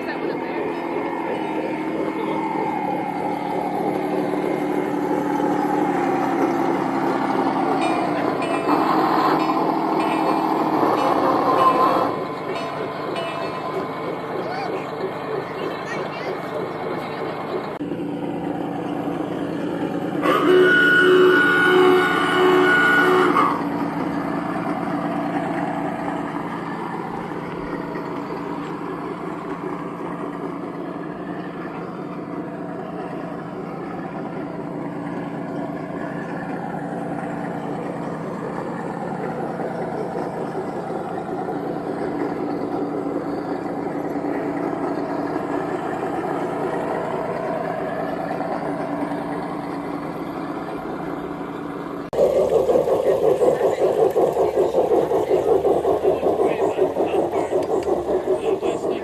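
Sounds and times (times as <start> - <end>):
model railcar engine running: 0.0 - 59.0.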